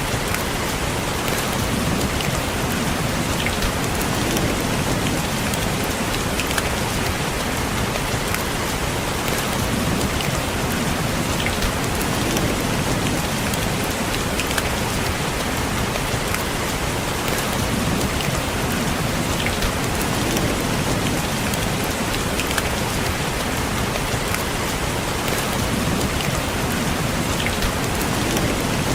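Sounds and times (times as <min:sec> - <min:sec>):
rain on a window: 0:00.0 - 0:28.9
raindrops tapping: 0:00.0 - 0:28.9.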